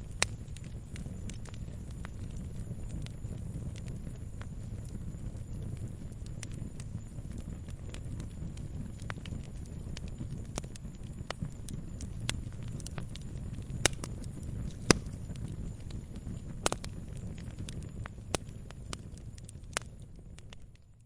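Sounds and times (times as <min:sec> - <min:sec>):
fire flames rumbling: 0:00.0 - 0:21.0
wood crackling and popping: 0:00.0 - 0:21.0.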